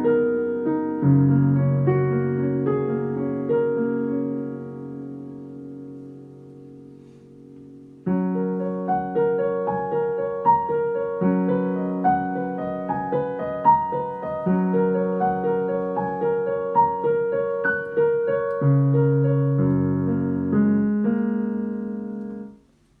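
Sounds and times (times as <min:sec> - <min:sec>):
piano melody over chords: 0:00.0 - 0:23.0.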